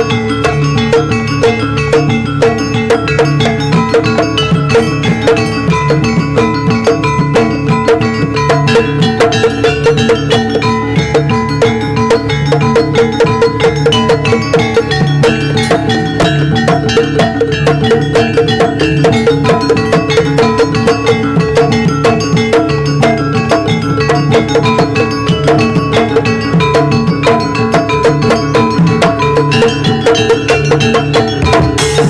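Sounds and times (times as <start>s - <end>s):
drums: 0.0s - 32.0s
gamelan music: 0.0s - 32.0s.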